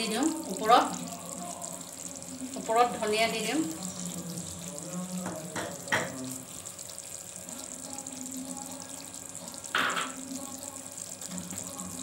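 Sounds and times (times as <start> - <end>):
gravy simmering in a pan: 0.0 - 12.0.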